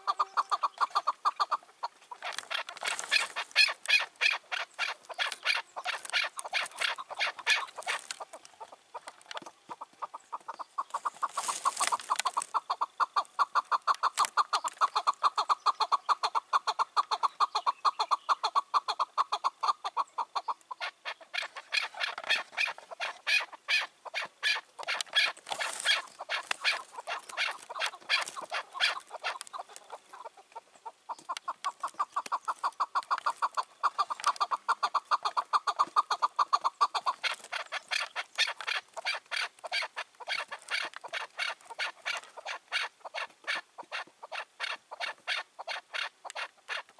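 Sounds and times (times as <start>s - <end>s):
partridge chuck calls: 0.0s - 46.9s.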